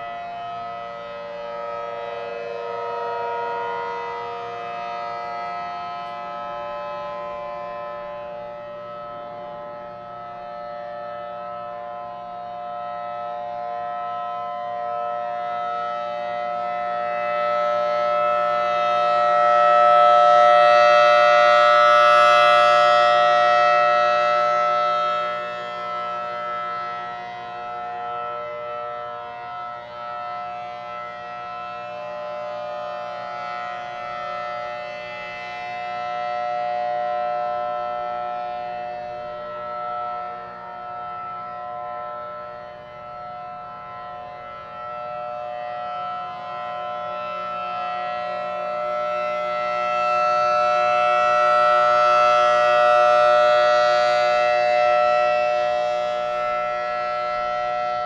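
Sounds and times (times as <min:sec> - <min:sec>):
outdoor warning siren steady tone: 0:00.0 - 0:58.0.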